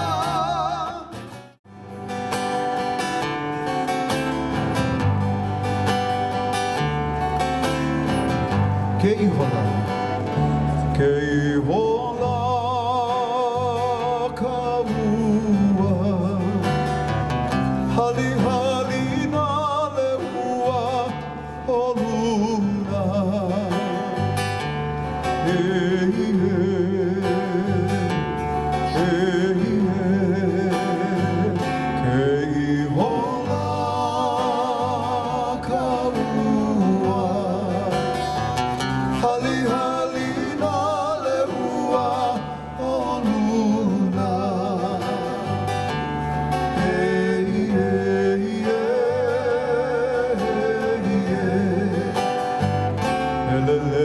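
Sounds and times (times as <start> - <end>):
plucked guitar: 0.0 - 54.0.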